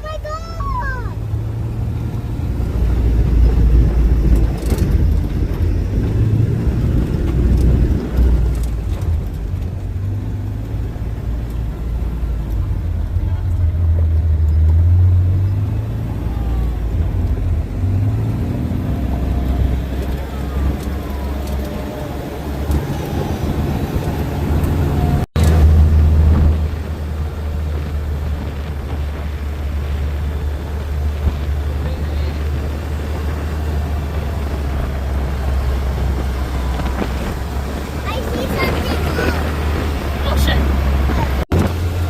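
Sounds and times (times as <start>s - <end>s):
road noise: 0.0s - 42.0s
rushing noise of moving vehicle: 0.0s - 42.0s
vehicle engine rumble: 0.0s - 42.0s.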